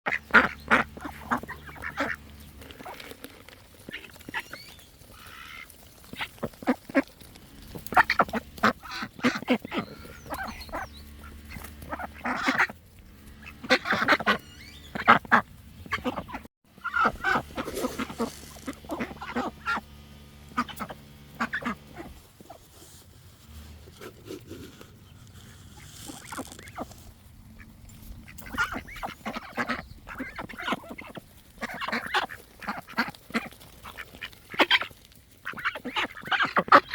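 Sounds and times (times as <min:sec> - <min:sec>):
ducks quacking: 0:00.1 - 0:22.9, 0:23.5 - 0:36.9.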